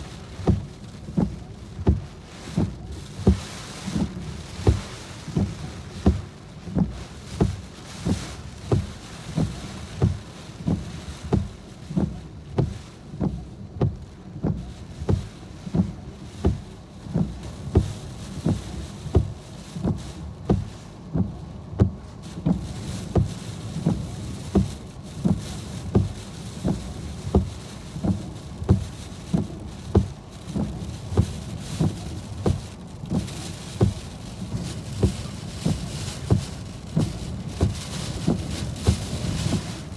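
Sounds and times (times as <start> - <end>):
heavy rain on a car: 0.0 - 39.9
wind: 0.0 - 39.9
steady regular thump: 0.1 - 39.9.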